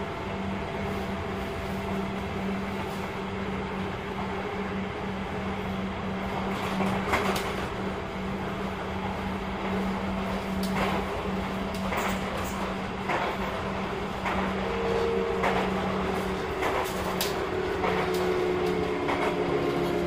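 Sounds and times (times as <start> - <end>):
electric train low hum: 0.0 - 20.0.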